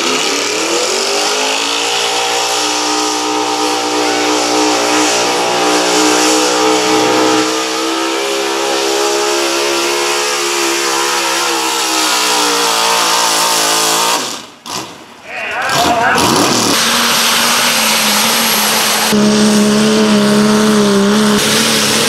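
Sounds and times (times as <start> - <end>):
pickup truck engine at full throttle: 0.0 - 22.0.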